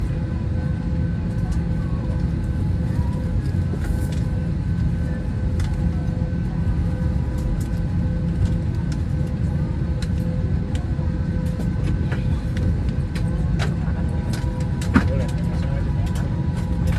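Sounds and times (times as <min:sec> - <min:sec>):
low engine rumble: 0:00.0 - 0:16.9.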